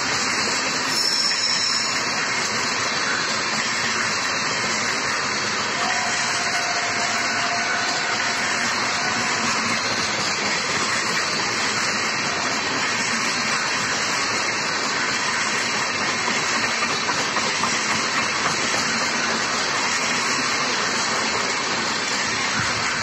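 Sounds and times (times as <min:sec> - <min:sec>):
train coaches passing at speed: 0:00.0 - 0:23.0.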